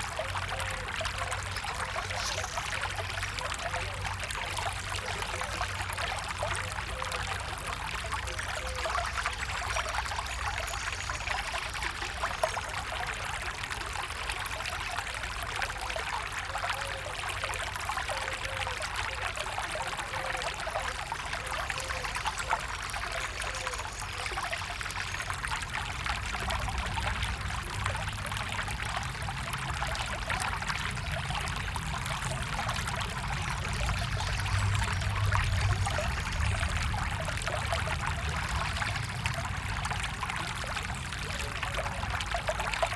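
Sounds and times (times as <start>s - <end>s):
stream trickling: 0.0s - 42.9s.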